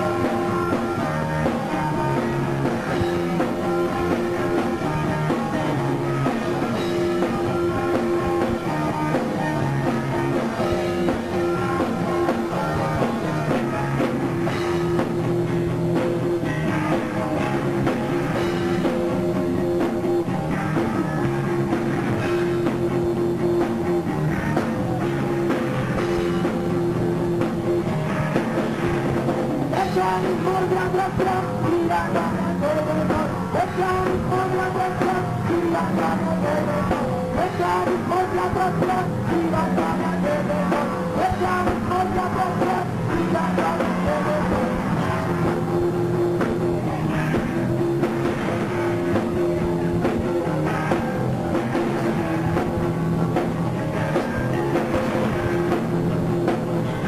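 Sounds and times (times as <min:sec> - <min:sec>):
drum kit: 0:00.0 - 0:57.0
guitar: 0:00.0 - 0:57.0.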